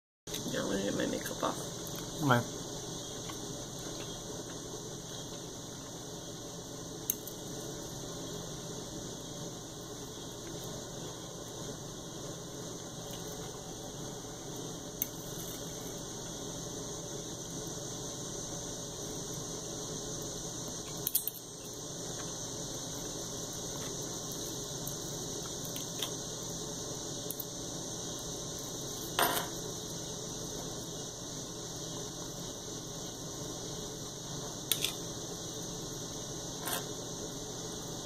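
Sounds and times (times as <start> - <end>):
steady background hiss: 0.3 - 38.0.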